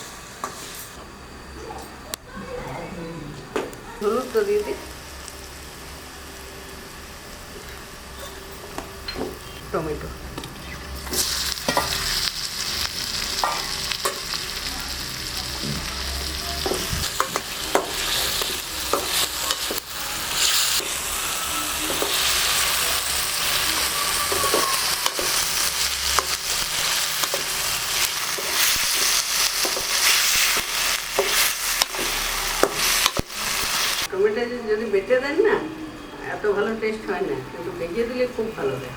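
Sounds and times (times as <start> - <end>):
tomatoes sizzling in oil: 0.0 - 2.6, 3.8 - 35.5.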